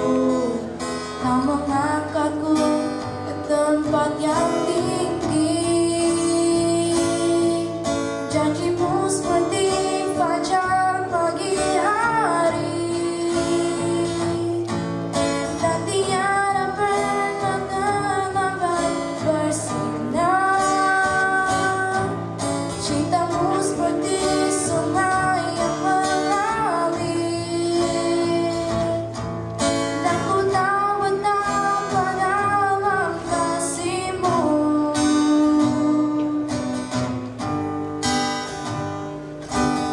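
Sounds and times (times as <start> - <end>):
girl singing into a microphone: 0.0 - 37.1
acoustic guitar accompaniment: 0.0 - 39.9.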